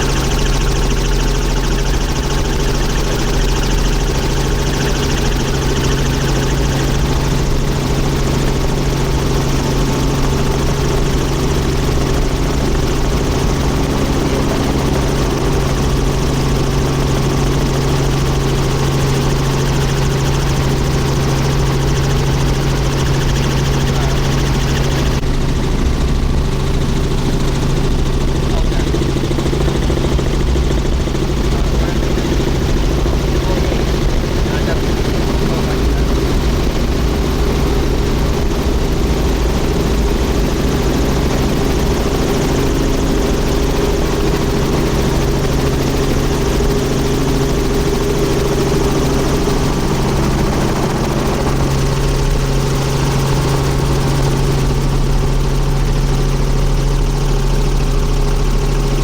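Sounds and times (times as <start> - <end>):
helicopter rotor and engine drone: 0.0 - 59.0.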